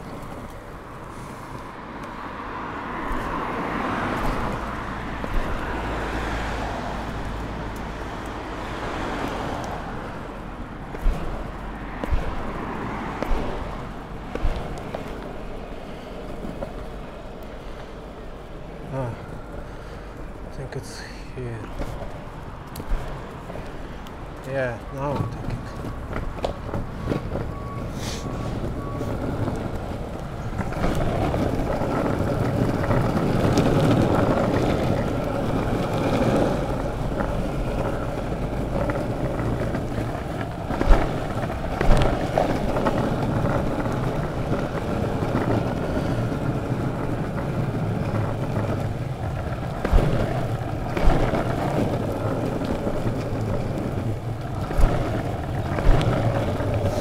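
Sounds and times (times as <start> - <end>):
longboard wheels rolling on pavement: 0.0 - 57.0.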